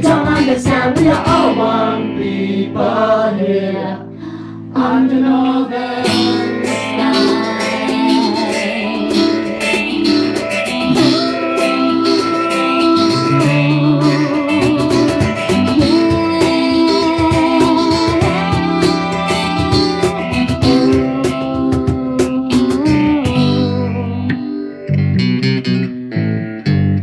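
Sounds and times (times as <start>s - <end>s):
live band playing: 0.0s - 3.2s, 5.7s - 26.8s
acoustic guitar: 0.0s - 27.0s
bass guitar: 0.0s - 27.0s
electric guitar: 0.0s - 27.0s.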